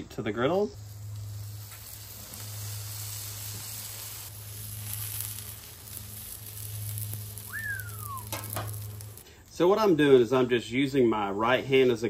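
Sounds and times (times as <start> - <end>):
low steady hum: 0.0 - 10.9
wrap sizzling on a griddle: 0.3 - 10.4.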